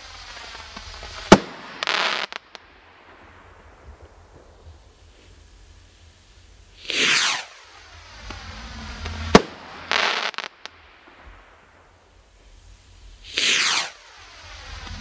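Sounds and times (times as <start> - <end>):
firework bang: 0.0 - 5.5, 6.7 - 12.6, 13.2 - 15.0
small firework pops: 0.0 - 12.6, 13.2 - 15.0
firework rushing hiss: 0.0 - 15.0.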